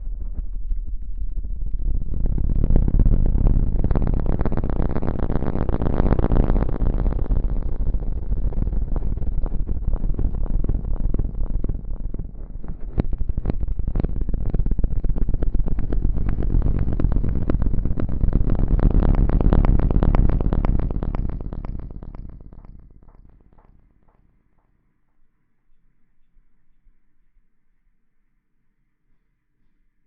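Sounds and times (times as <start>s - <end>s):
rustling and scratching on microphone: 0.0s - 24.3s.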